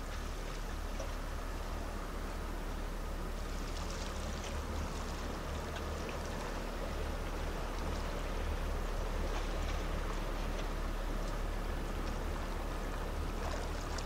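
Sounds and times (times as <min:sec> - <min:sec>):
light splashy ticks: 0:00.0 - 0:01.8, 0:03.4 - 0:14.0
small waves lapping against rocks: 0:00.0 - 0:14.0
steady low rumble: 0:00.0 - 0:14.0.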